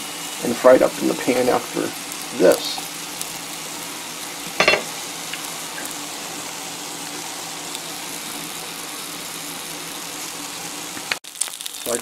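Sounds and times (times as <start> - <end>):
potatoes frying in oil: 0.0 - 12.0.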